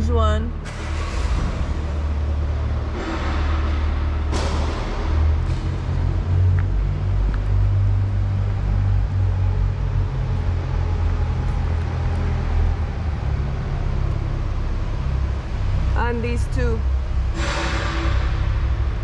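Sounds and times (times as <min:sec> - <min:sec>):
loud low machinery rumble: 0:00.0 - 0:19.0.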